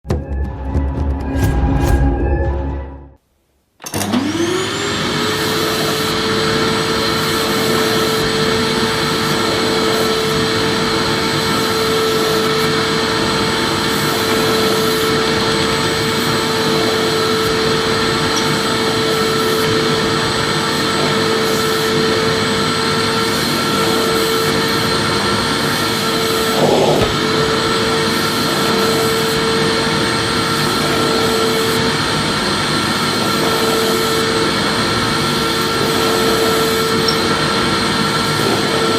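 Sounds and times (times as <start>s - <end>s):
vacuum cleaner running: 3.8s - 38.9s.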